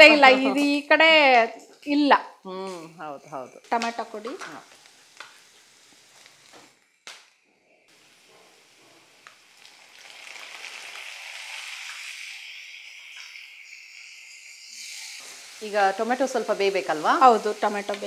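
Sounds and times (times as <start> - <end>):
tomatoes sizzling in hot oil: 0.0 - 18.0.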